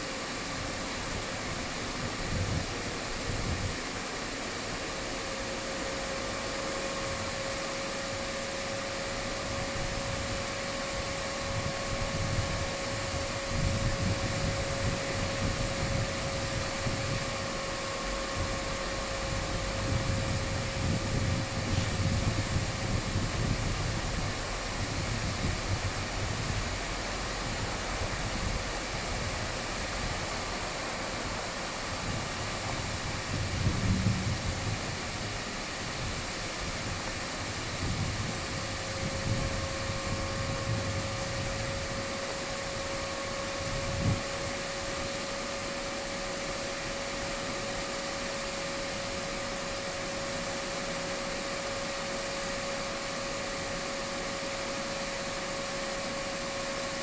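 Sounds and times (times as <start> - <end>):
diesel locomotive engine hum: 0.0 - 57.0
high whine: 0.0 - 57.0.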